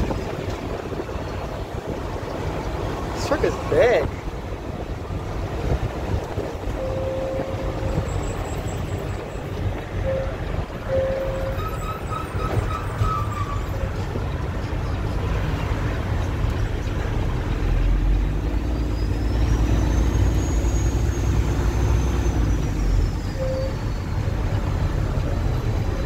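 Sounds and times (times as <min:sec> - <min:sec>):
truck engine and road noise: 0:00.0 - 0:26.0.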